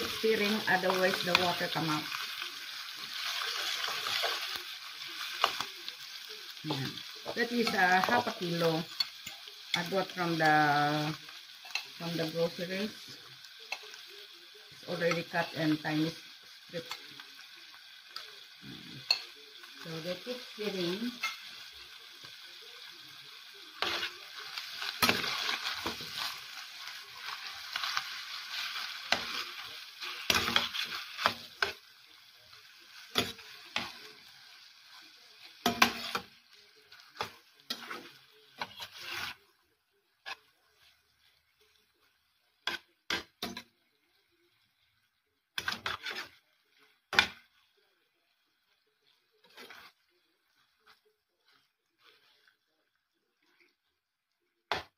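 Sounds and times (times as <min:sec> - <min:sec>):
meat sizzling in a pan: 0:00.0 - 0:54.9.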